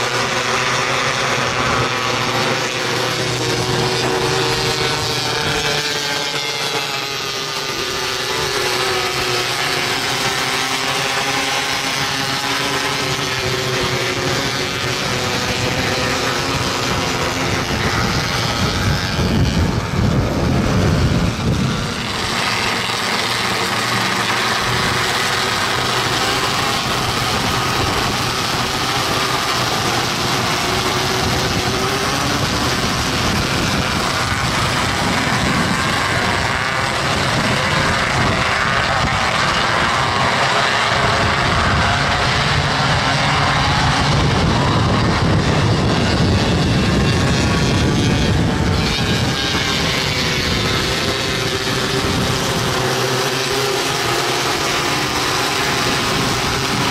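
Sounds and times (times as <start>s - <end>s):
racing car engines revving: 0.0s - 56.9s.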